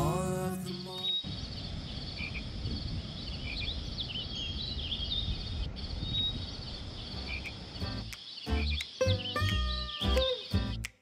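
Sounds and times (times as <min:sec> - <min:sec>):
high insect trill: 0:00.0 - 0:10.7
small birds chirping: 0:00.0 - 0:11.0.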